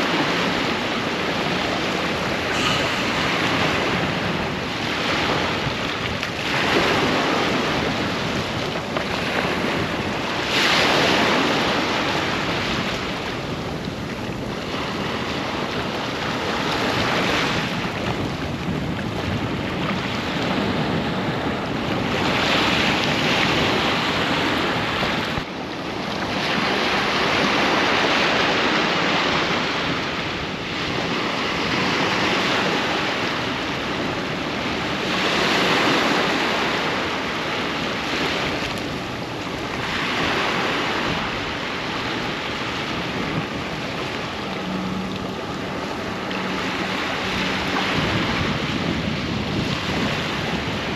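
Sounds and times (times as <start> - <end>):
waves breaking on beach: 0.0 - 50.9.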